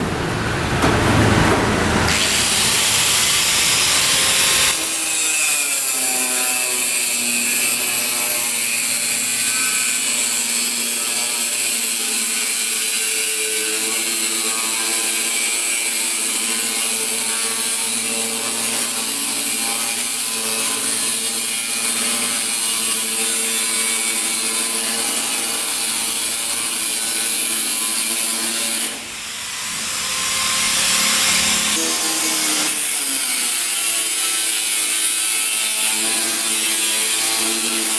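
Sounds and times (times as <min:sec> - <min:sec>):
power tool cutting steel plate: 0:00.8 - 0:37.9.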